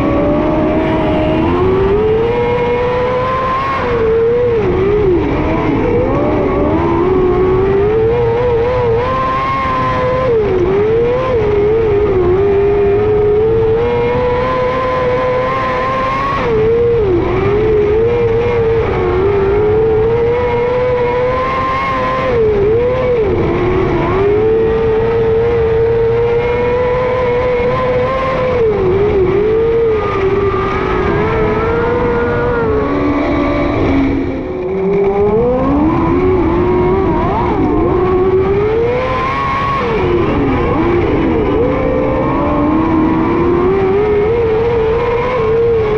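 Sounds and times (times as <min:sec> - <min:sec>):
racing motorcycle engine: 0:00.0 - 0:45.9.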